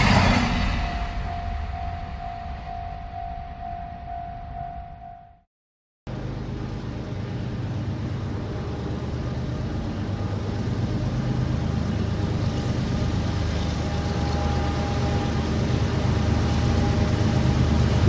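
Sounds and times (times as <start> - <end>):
steam train rumbling: 0.0 - 5.1, 6.1 - 18.0.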